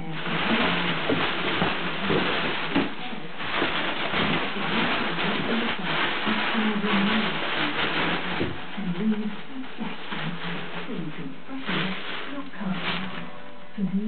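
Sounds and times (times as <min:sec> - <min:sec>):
newspaper rustling and crackling: 0:00.0 - 0:13.5.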